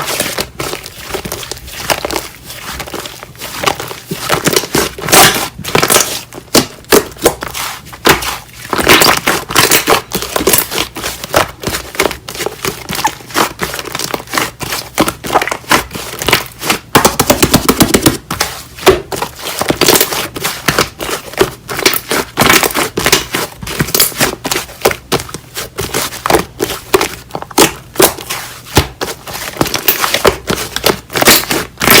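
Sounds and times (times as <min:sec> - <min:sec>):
hands squishing slime: 0:00.0 - 0:32.0.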